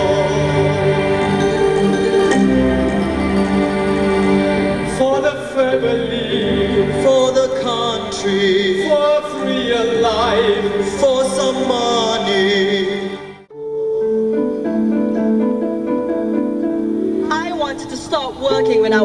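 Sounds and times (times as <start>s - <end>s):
held low music notes: 0.0s - 19.0s.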